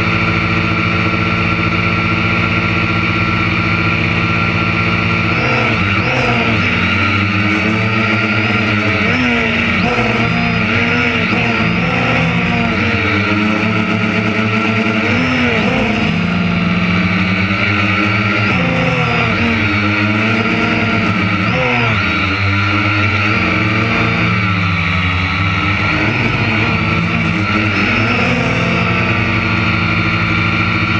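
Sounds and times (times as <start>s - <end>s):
harvester engine running under load: 0.0s - 30.9s.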